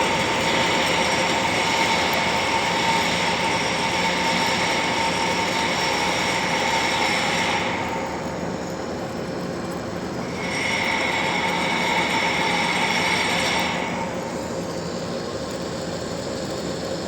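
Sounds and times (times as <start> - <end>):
lathe cutting hiss: 0.0 - 8.8, 10.2 - 17.0
lathe machine whine: 0.0 - 17.0.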